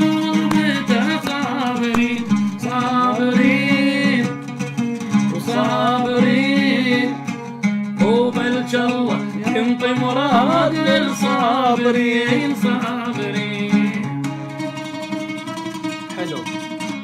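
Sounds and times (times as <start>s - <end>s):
man singing melismatic melody: 0.0s - 7.4s, 8.0s - 14.9s
oud being plucked: 0.0s - 17.0s.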